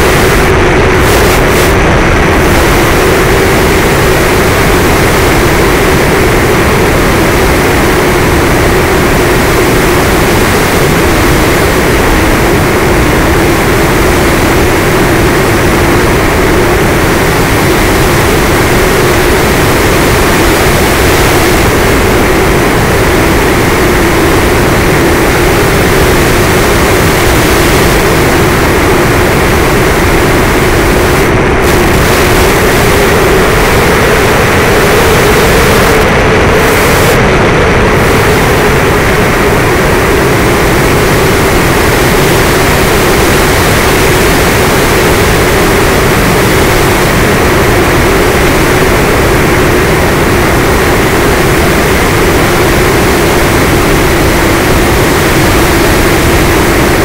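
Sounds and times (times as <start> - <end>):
electric motor and propeller drone: 0.0 - 57.0
loud wind rush: 0.0 - 57.0.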